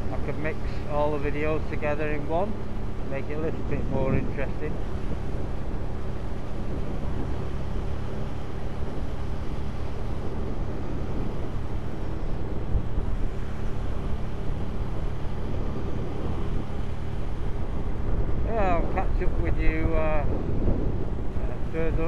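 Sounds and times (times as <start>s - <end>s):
motorcycle engine running: 0.0s - 22.0s
wind rush on microphone: 0.0s - 22.0s.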